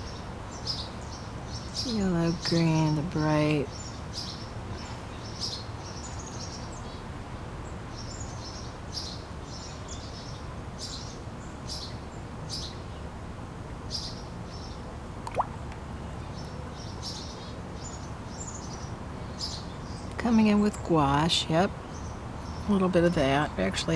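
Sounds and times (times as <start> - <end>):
small birds chirping: 0.0 - 13.2, 13.8 - 23.9.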